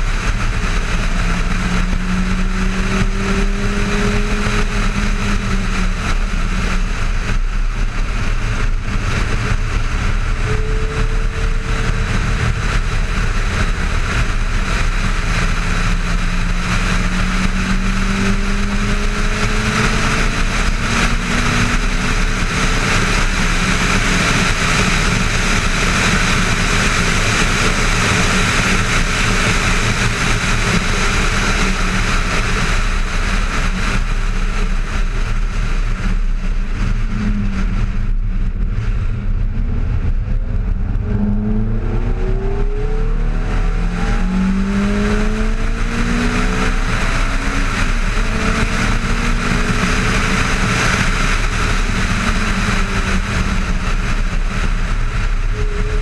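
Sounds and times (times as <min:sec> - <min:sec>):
sports car engine accelerating: 0:00.0 - 0:56.0
wind rush: 0:00.0 - 0:56.0.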